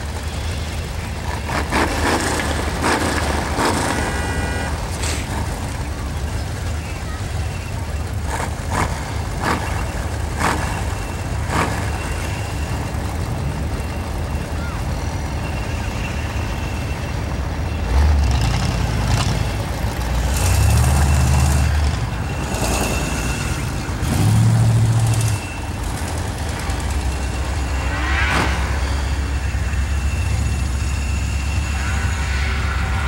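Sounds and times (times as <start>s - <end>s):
race car engines droning: 0.0s - 33.0s.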